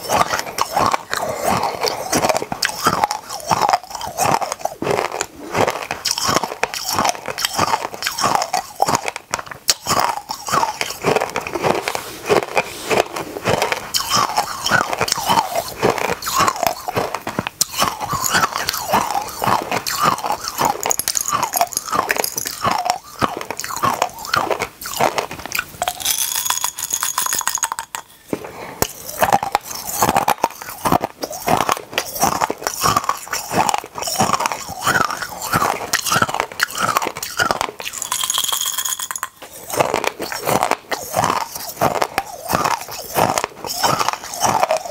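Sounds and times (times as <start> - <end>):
chewing hard candies: 0.0 - 44.9.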